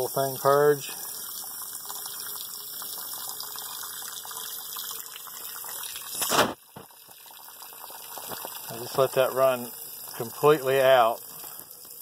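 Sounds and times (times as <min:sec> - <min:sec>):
water hissing from pump: 0:00.0 - 0:12.0.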